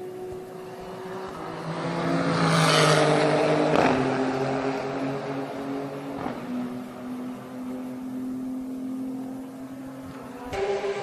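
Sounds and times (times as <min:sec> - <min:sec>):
race car passing by: 0:00.0 - 0:11.0.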